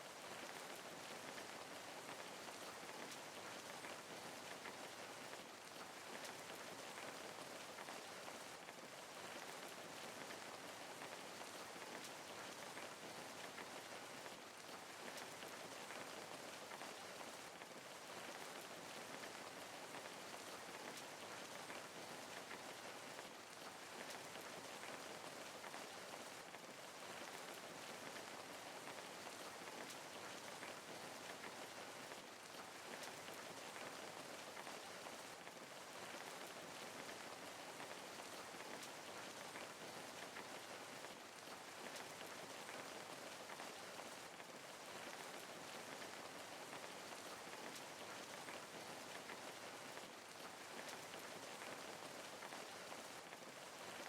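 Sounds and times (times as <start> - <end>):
soft rain pattering: 0.0 - 54.0.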